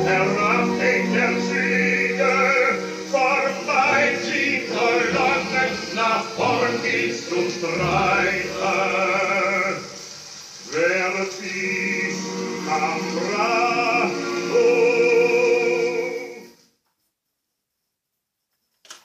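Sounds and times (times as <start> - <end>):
song on vinyl record: 0.0 - 16.8.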